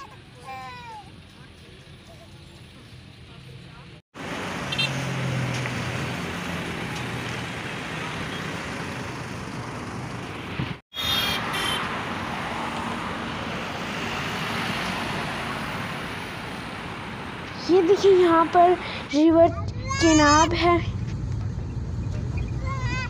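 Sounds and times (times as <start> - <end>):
highway traffic rushing: 0.0 - 23.0
bus engine running: 1.1 - 10.8, 12.9 - 23.0.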